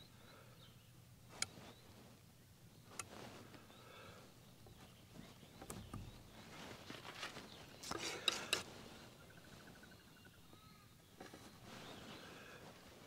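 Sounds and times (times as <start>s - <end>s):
faint bird calls: 0.0s - 13.0s.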